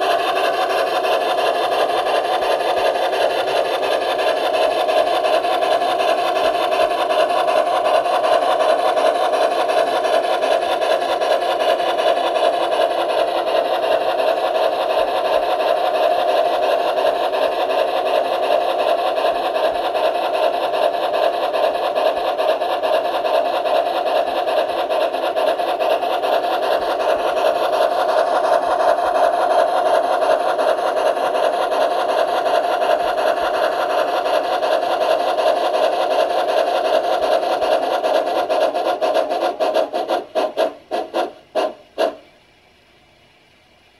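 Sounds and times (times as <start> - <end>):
model train running on rails: 0.0 - 43.9.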